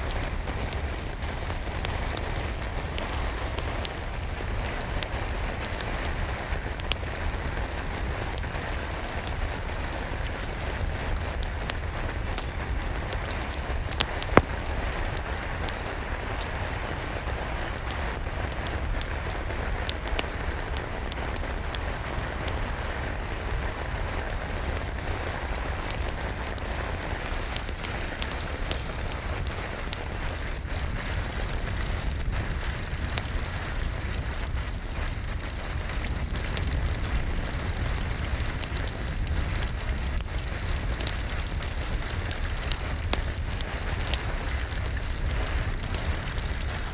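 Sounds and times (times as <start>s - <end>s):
rain hissing: 0.0s - 46.9s
wood fire crackling: 0.0s - 46.9s.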